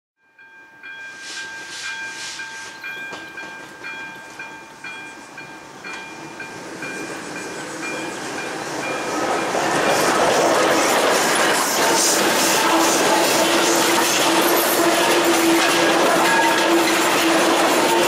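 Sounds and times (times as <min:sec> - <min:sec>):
steam locomotive exhaust beating: 0:00.9 - 0:18.0.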